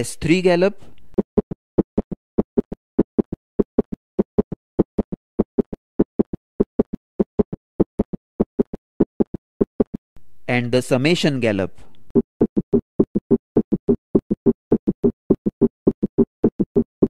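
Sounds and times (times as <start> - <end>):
heart sounds galloping thuds: 1.1 - 10.0, 12.2 - 17.0.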